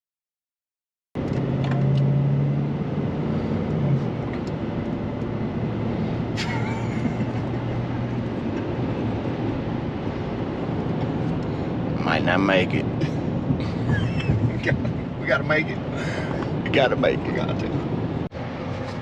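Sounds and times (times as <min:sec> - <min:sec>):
vehicle engine and road noise: 0:01.2 - 0:19.0.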